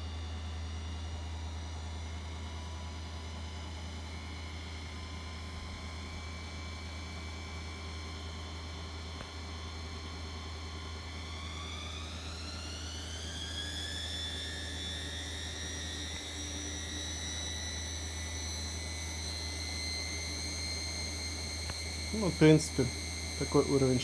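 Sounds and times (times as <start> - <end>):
washing machine motor whine: 0.0 - 24.0.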